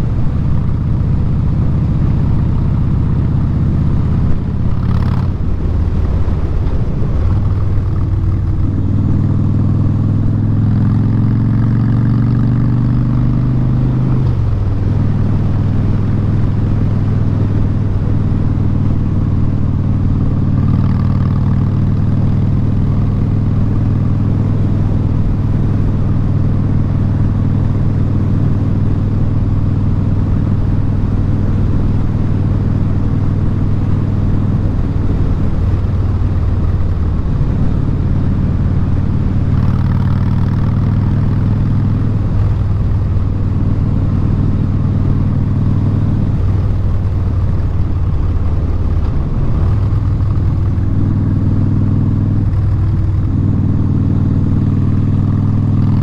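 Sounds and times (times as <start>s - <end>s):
motorcycle engine running loud: 0.0s - 56.0s.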